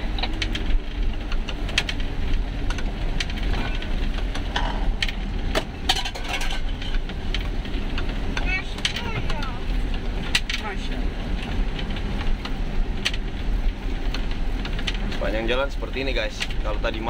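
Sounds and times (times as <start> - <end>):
vehicle engine and road rumble: 0.0 - 17.0
vehicle rattling: 0.0 - 17.0.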